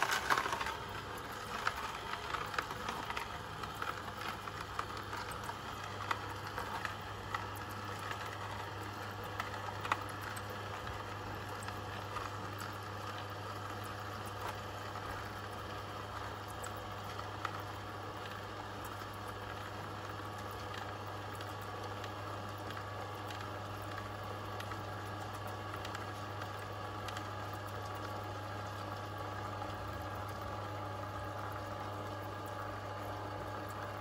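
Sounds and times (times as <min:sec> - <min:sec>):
crackles and clicks of pressing: 0:00.0 - 0:34.0
juicer motor hum: 0:00.0 - 0:34.0.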